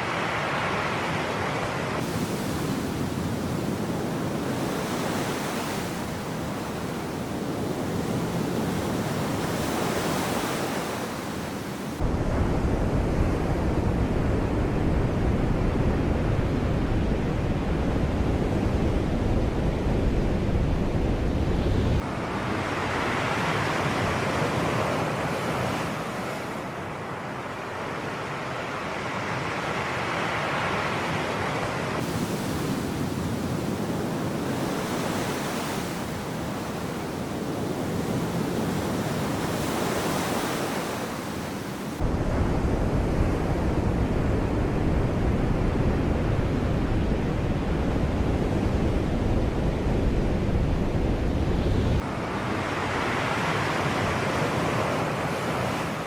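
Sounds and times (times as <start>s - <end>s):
sea waves breaking on shore: 0.0s - 14.3s, 21.9s - 56.0s.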